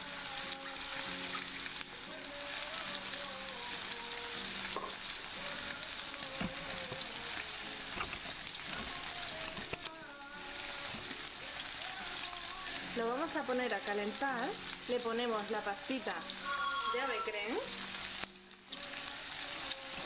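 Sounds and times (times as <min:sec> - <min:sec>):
pork sizzling in a frying pan: 0:00.0 - 0:20.0.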